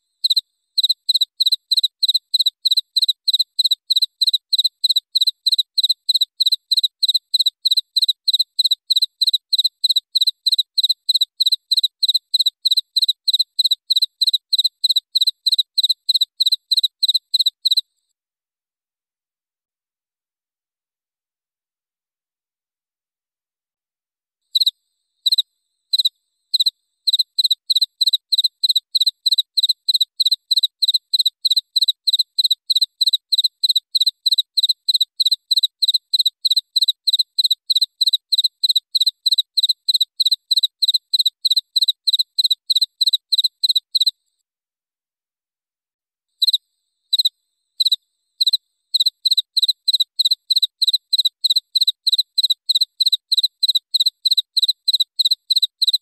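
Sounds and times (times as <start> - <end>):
cricket chirping: 0.0 - 17.9, 24.5 - 44.2, 46.4 - 56.0.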